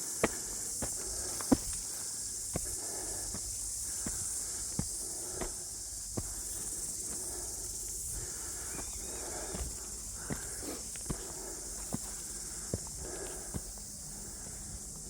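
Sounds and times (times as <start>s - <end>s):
footsteps on bush track: 0.0s - 15.0s
insects hissing: 0.0s - 15.0s.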